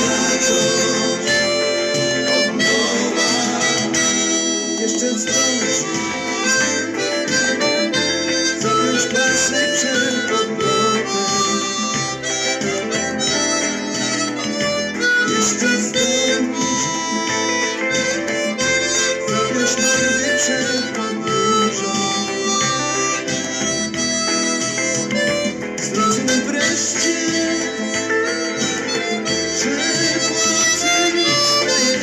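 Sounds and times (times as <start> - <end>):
guitar accompaniment: 0.0 - 32.0
harmonica melody: 0.0 - 32.0
steady low rhythm: 0.0 - 32.0.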